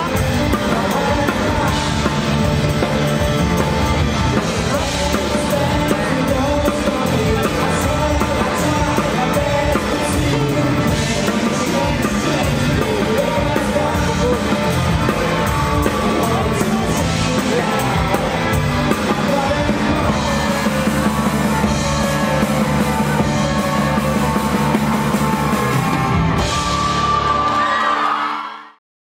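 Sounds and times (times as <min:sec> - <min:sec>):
rock music with singing: 0:00.0 - 0:28.6.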